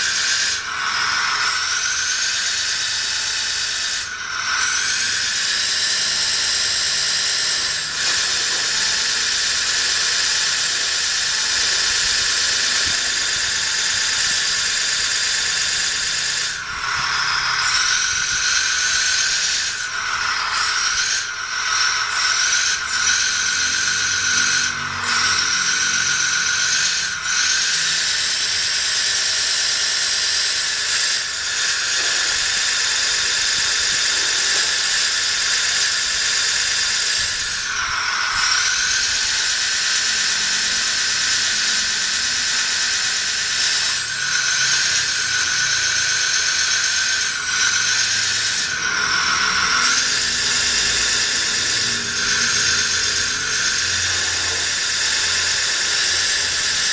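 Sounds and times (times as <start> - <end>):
small electric motors whining: 0.0 - 56.9.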